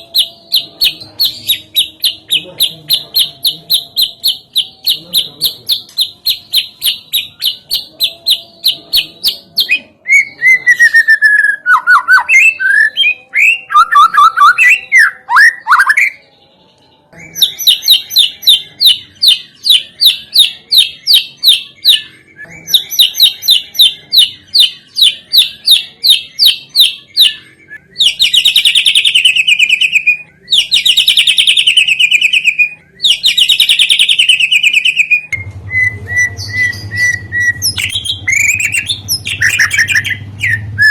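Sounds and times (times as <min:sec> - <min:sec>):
high bird chirps: 0:00.0 - 0:40.9.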